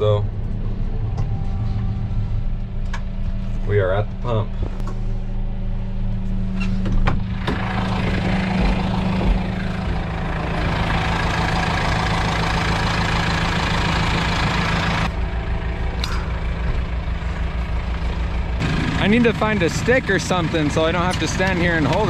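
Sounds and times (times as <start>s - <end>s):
diesel tractor engine idling: 0.0s - 22.0s.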